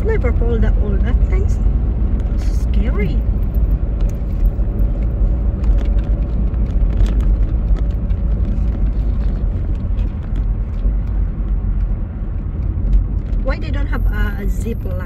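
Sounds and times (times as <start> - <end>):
car driving on asphalt: 0.0 - 15.0.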